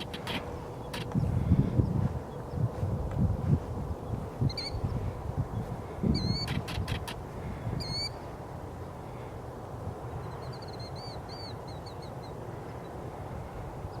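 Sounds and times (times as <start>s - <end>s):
birds chirping: 0.0s - 14.0s
low background noise: 0.0s - 14.0s.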